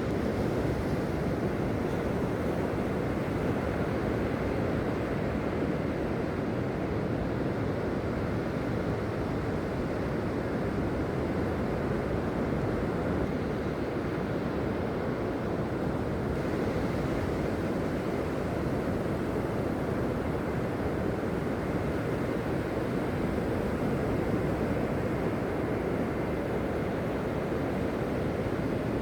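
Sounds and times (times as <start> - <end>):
wind on the shore: 0.0 - 29.0.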